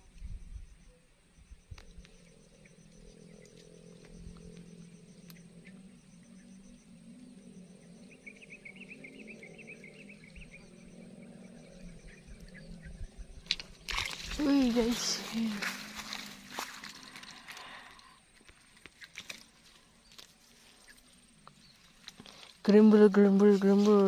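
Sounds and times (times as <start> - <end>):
busy insect chirping: 0.0 - 24.0
high insect whine: 0.0 - 24.0
low steady hum: 0.0 - 24.0
pulsing cricket chirp: 0.0 - 24.0.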